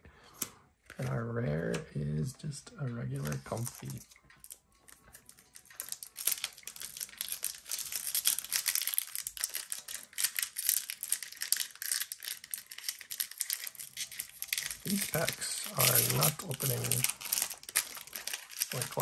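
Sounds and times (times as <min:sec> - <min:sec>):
foil wrapper crinkling: 0:03.2 - 0:19.0.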